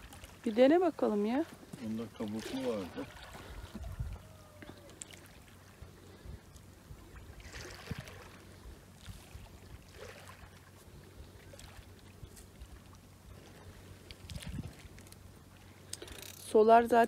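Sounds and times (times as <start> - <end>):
small waves washing on shore: 0.0 - 16.2.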